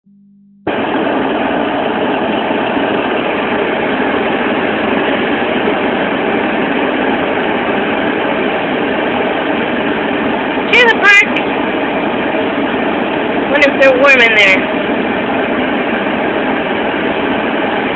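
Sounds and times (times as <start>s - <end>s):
car running heard from inside: 0.0s - 17.9s.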